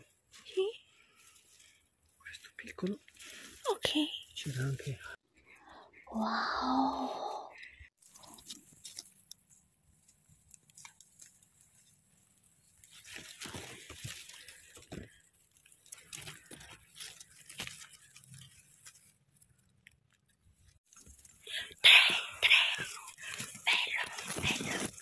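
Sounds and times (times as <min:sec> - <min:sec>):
dry leaves and twigs crackling: 0:00.0 - 0:04.9, 0:07.9 - 0:25.0.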